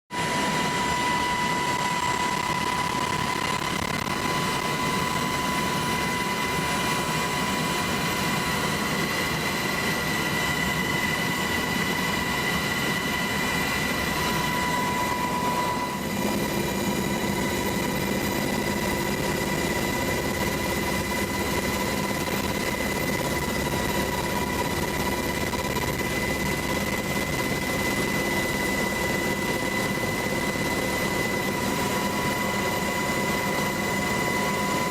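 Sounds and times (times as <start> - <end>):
helicopter engine roar: 0.1 - 34.9
high steady whine: 0.1 - 34.9.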